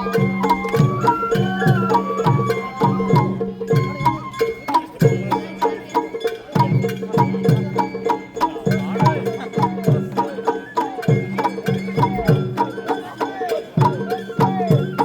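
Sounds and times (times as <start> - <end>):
bamboo flute melody: 0.0 - 15.0
taiko drums: 0.0 - 15.0.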